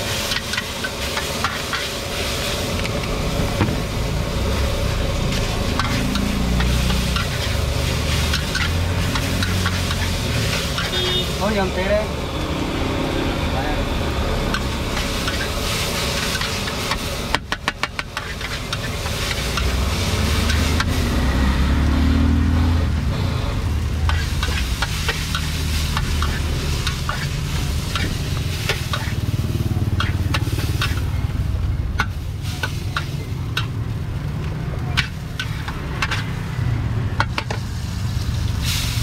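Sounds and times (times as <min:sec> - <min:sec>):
food sizzling: 0:00.0 - 0:39.0
low engine rumble: 0:00.2 - 0:39.0.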